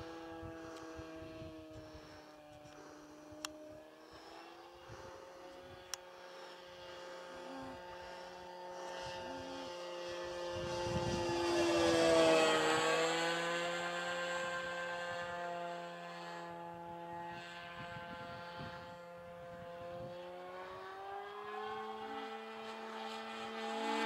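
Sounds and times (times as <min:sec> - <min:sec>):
model plane motor whining: 0:00.0 - 0:24.0.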